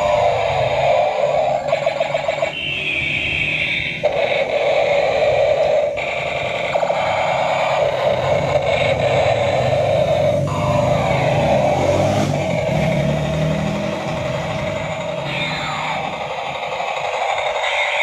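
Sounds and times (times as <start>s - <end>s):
toy electronic pulsing tones: 0.0s - 18.0s.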